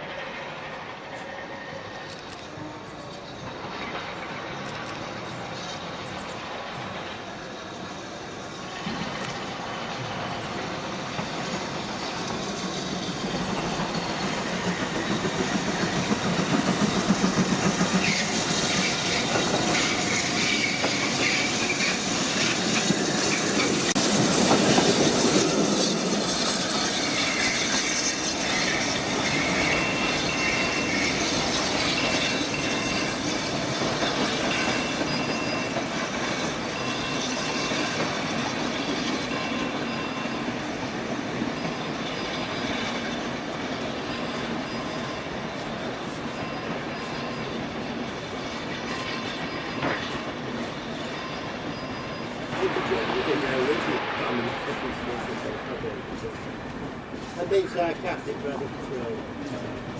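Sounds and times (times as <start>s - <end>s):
train wheels squealing: 0.0s - 59.9s
train wheels clattering over rail joints: 3.0s - 59.9s.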